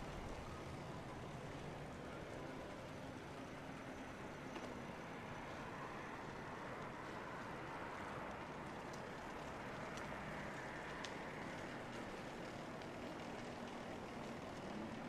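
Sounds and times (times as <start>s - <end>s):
distant city traffic hum: 0.0s - 15.0s
faint engine-like tone: 0.0s - 15.0s.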